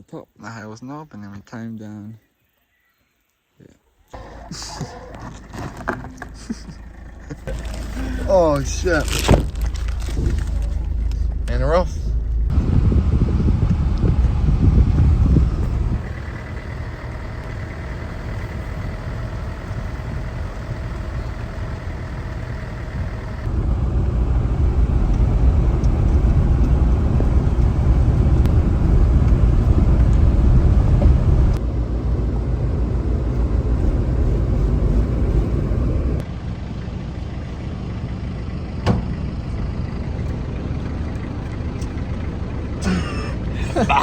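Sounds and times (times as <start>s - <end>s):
car engine and tyre rumble: 4.0s - 44.0s.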